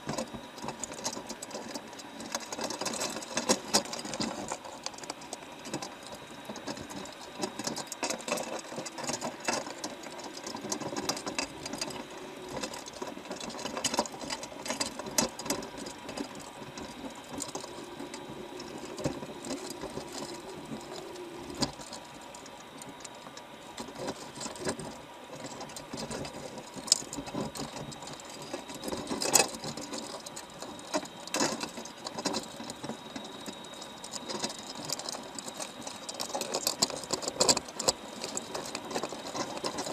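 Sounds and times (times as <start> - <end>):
crabs clicking underwater: 0.0 - 39.9.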